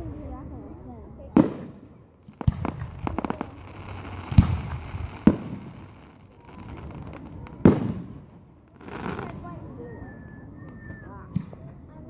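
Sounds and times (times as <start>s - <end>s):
fireworks rumble and crackle: 0.0s - 12.0s.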